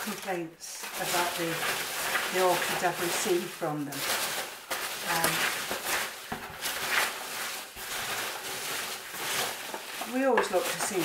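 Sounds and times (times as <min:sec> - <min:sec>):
packing material rustling: 0:00.0 - 0:11.0.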